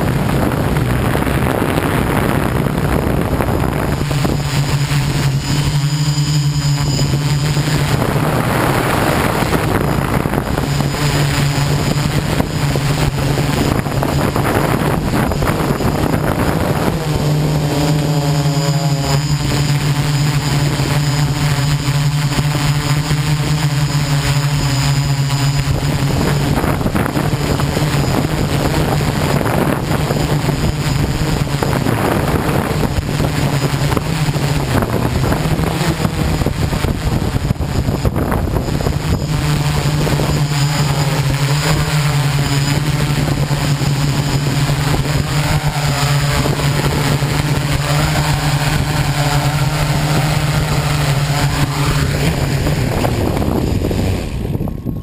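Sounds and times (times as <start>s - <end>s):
quadcopter propellers droning: 0.0s - 55.0s
wind rush over microphone: 0.0s - 55.0s.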